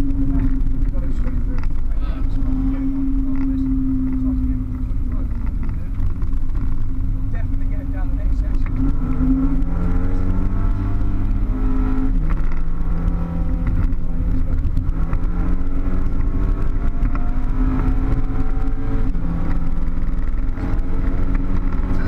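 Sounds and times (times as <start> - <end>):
car engine accelerating: 0.0 - 22.0
low road rumble: 0.0 - 22.0.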